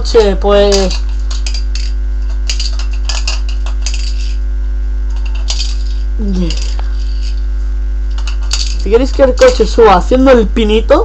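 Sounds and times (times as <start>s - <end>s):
loud low hum: 0.0s - 11.0s.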